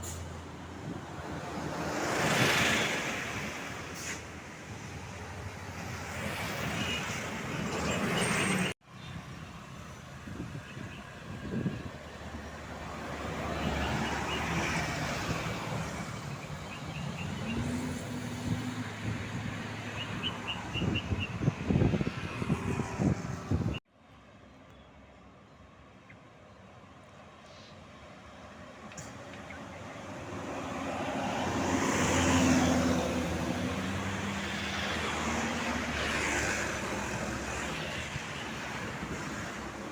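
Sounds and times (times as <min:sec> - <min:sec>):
vehicles driving past: 0:00.0 - 0:39.9.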